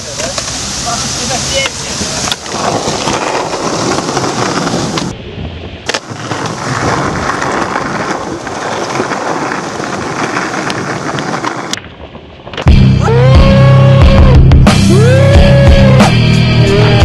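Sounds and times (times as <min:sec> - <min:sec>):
skateboard wheels rolling on concrete: 0:00.0 - 0:17.0.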